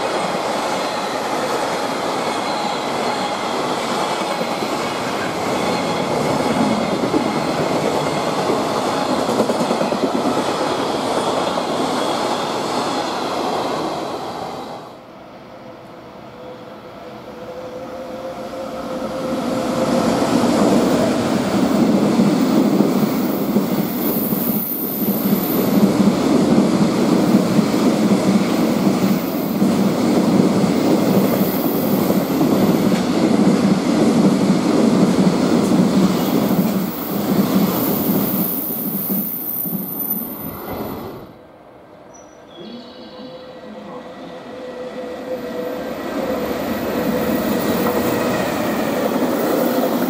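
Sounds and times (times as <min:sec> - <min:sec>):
freight train rumble and clatter: 0:00.0 - 0:14.1, 0:18.4 - 0:41.5, 0:45.3 - 0:50.0
train whine: 0:00.0 - 0:50.0.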